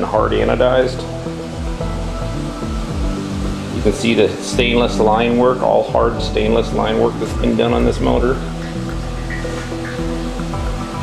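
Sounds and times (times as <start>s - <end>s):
background music sustained notes: 0.0s - 11.0s
steady low bass: 0.0s - 11.0s.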